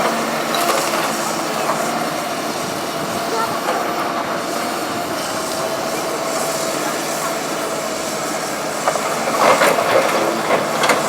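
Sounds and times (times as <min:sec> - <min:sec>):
excavator running: 0:00.0 - 0:11.0.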